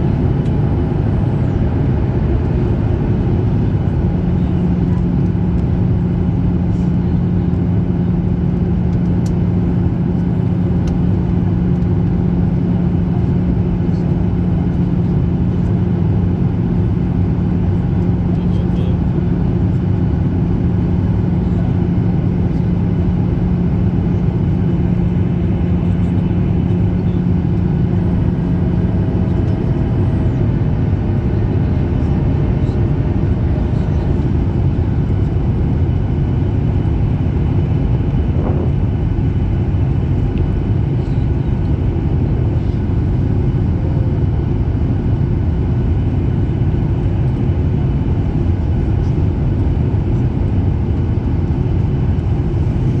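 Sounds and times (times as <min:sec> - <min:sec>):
airplane engine and airflow noise: 0:00.0 - 0:53.0
low steady hum: 0:00.0 - 0:53.0.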